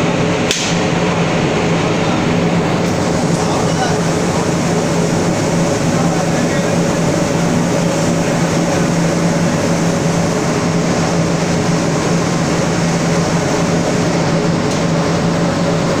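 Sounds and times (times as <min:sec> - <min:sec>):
constant low hum: 0:00.0 - 0:16.0
suction fan air rush: 0:00.0 - 0:16.0.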